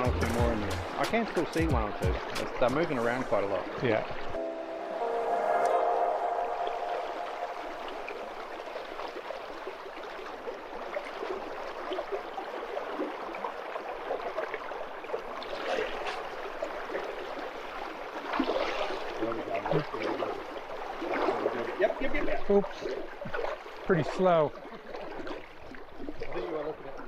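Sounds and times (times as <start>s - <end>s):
river water burbling over stones: 5.0s - 27.0s.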